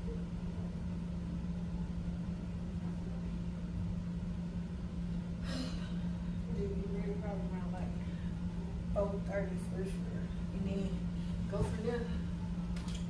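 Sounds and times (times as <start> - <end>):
household equipment humming: 0.0 - 13.0.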